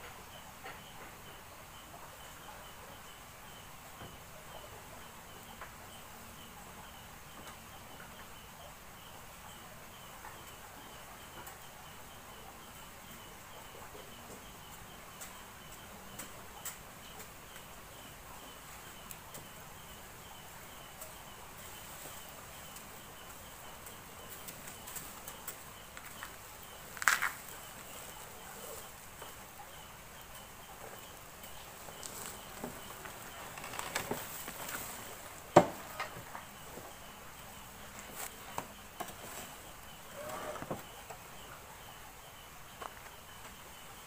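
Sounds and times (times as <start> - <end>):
insects chirping: 0.3 - 44.0.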